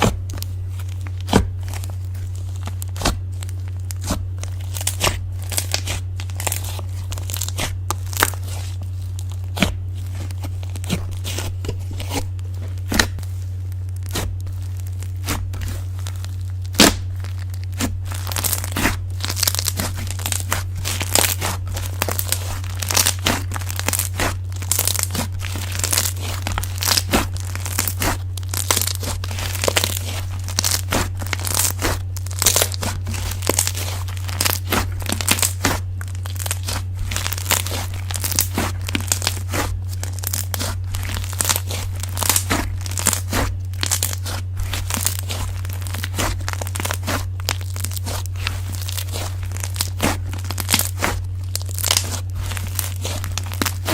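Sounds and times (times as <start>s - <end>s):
slime crackling and popping: 0.0s - 53.9s
steady low hum: 0.0s - 53.9s.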